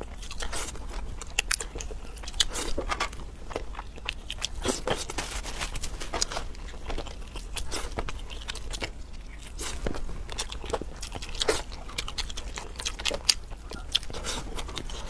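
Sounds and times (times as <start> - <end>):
biting and chewing: 0.0 - 15.0.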